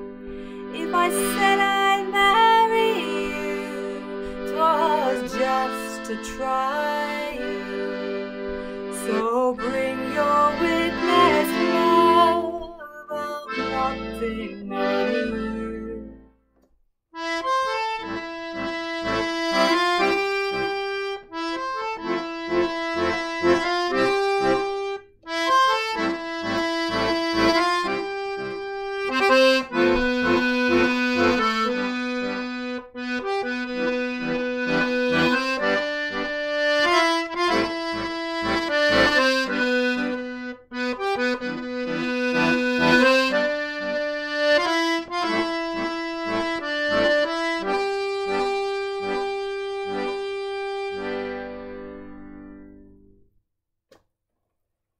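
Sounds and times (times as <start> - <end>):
piano accordion playing a tune: 0.0 - 16.4, 17.2 - 53.2.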